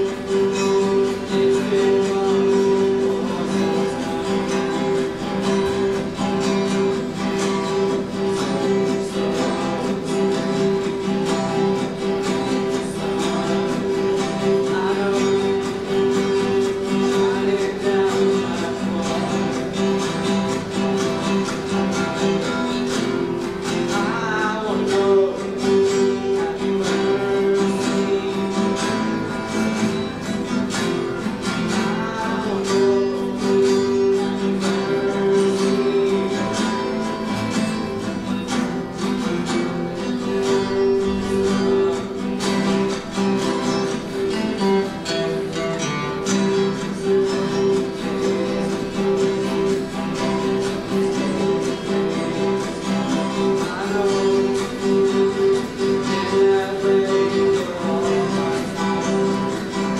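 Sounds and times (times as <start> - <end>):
acoustic guitars strumming chords: 0.0 - 59.9
boy singing into a microphone: 0.0 - 59.9.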